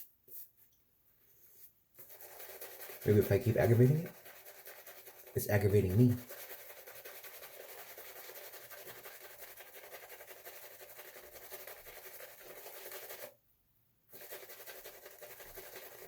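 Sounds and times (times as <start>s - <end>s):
shaving brush rubbing lather: 2.0s - 13.3s, 14.1s - 16.0s.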